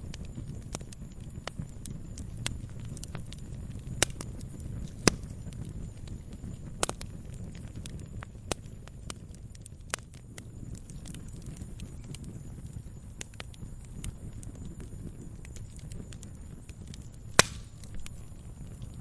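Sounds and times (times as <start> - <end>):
campfire crackling and popping: 0.0 - 19.0
low steady rumble: 0.0 - 19.0.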